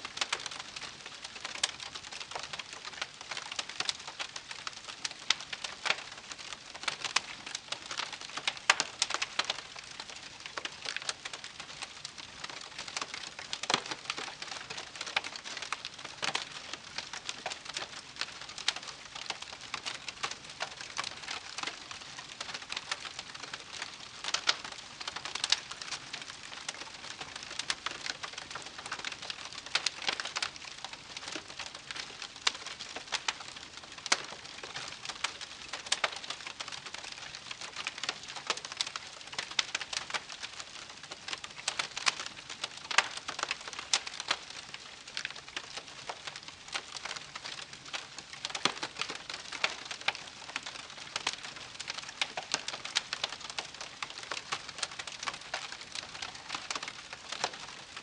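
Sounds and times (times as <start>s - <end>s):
campfire crackling: 0.2s - 58.0s.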